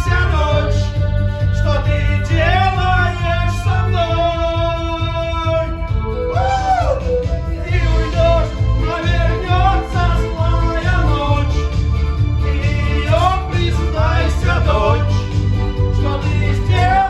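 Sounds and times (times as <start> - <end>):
man singing pop song: 0.0 - 7.0, 7.6 - 17.0
steady bass beat: 0.0 - 17.0.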